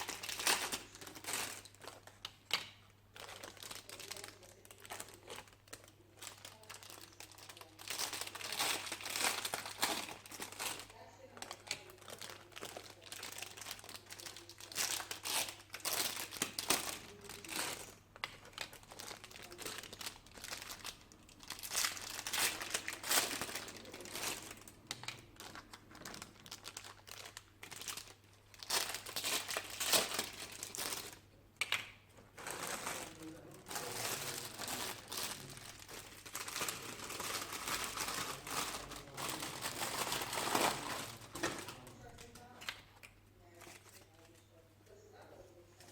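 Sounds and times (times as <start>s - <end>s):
plastic packaging crinkling: 0.0s - 44.4s.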